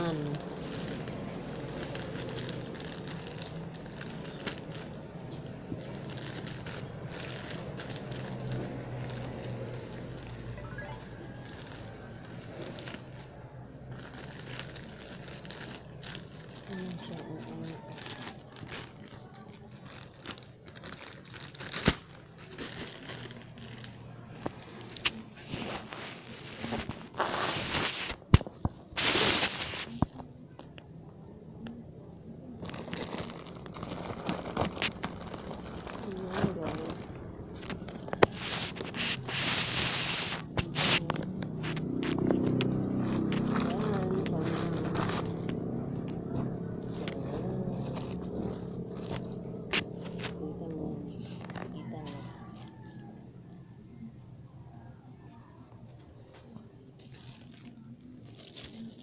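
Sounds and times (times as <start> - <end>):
wrapping ripping: 0.0 - 30.7, 32.6 - 53.2, 56.5 - 59.0
packaging crinkling: 0.0 - 30.8, 32.6 - 53.1, 56.4 - 59.0.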